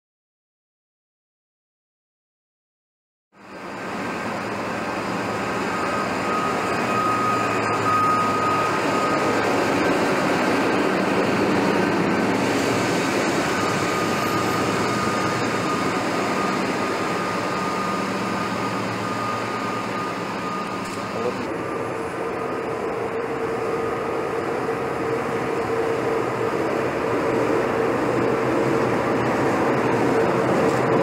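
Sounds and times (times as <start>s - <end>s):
high locomotive whine: 3.4s - 31.0s
low locomotive engine hum: 3.4s - 31.0s
rail noise: 3.4s - 31.0s.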